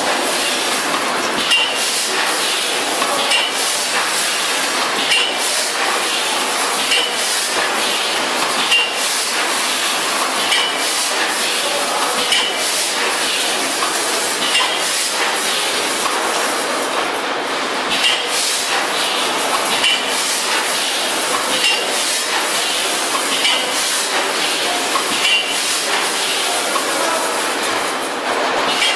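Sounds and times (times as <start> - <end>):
packing machine hissing: 0.0 - 28.8.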